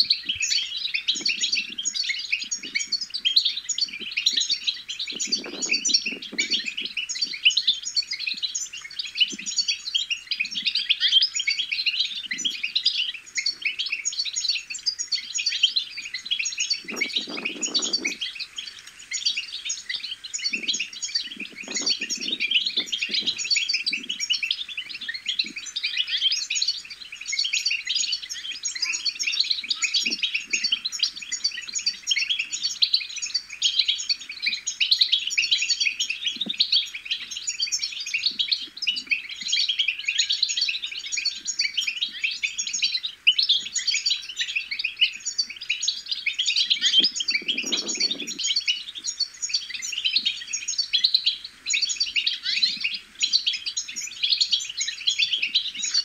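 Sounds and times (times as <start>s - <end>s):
finch twittering: 0.0s - 56.0s.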